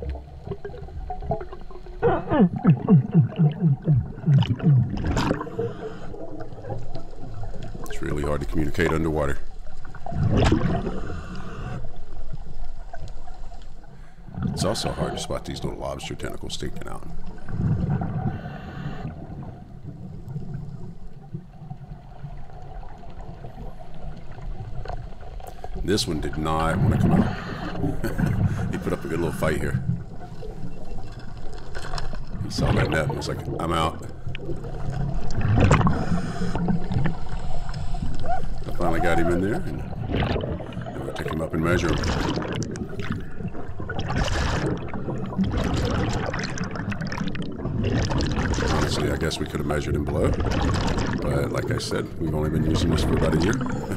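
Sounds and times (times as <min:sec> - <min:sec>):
gurgling water: 0:00.0 - 0:53.9
underwater low rumble: 0:00.0 - 0:53.9.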